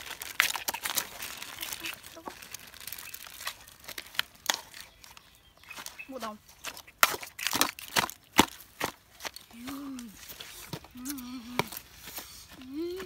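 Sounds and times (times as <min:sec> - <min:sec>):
wet crinkling of food: 0:00.0 - 0:12.5.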